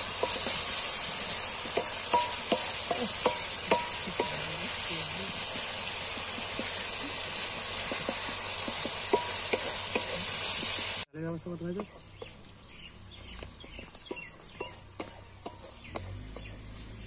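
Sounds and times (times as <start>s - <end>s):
wooden spatula scraping a wok: 0.0s - 11.0s, 11.8s - 17.0s
paste sizzling in oil: 0.0s - 11.1s, 12.2s - 17.0s.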